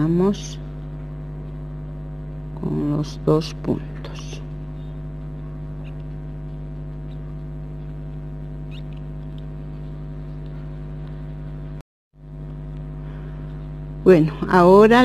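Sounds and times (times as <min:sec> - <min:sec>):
buzzy electrical mains hum: 0:00.0 - 0:15.0.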